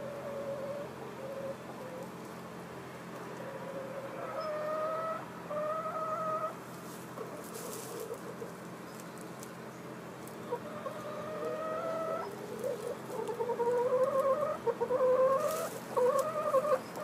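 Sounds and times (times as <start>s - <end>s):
hens calling: 0.0s - 17.0s.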